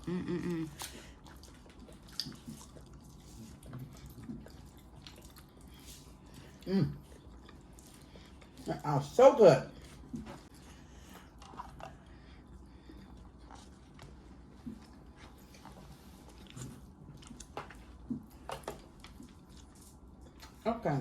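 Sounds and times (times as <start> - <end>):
people chewing: 0.0 - 20.6.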